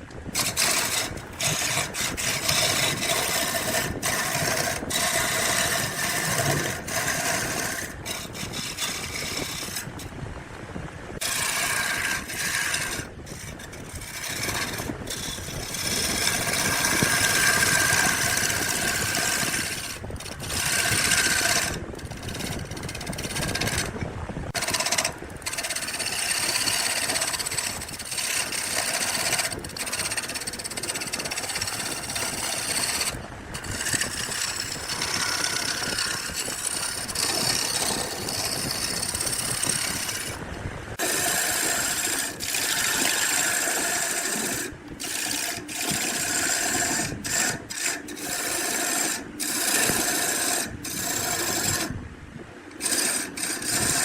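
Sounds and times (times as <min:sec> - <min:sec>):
rasping tool scraping wood: 0:00.0 - 0:10.2, 0:11.2 - 0:40.4, 0:41.0 - 0:52.0, 0:52.7 - 0:54.0.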